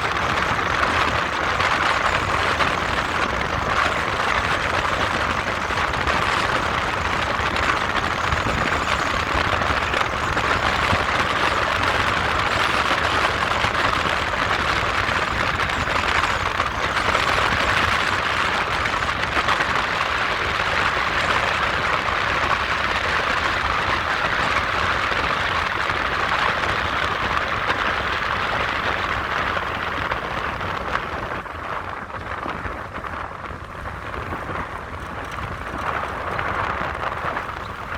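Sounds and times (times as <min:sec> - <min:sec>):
steady rushing noise: 0:00.0 - 0:37.9.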